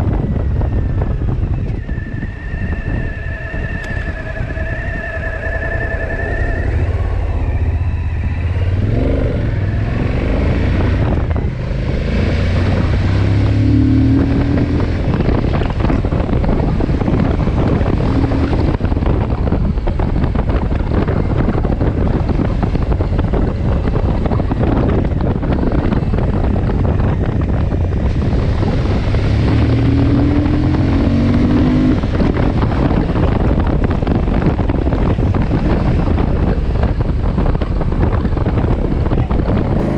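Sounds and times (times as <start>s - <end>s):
wind noise on microphone: 0.0s - 39.9s
motorcycle engine running: 6.1s - 39.9s.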